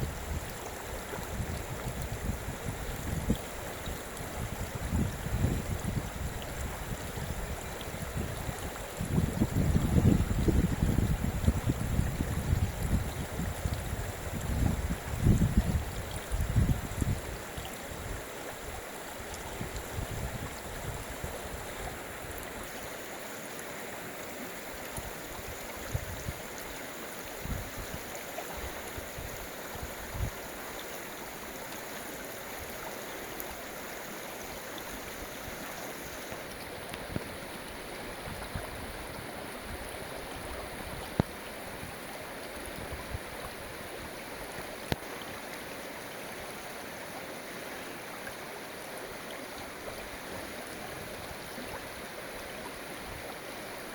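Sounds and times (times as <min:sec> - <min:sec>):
flowing water: 0:00.0 - 0:53.9.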